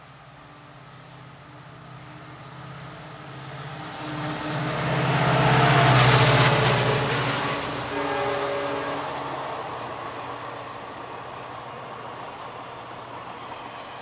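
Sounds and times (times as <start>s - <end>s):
passenger train passing: 0.1s - 14.0s.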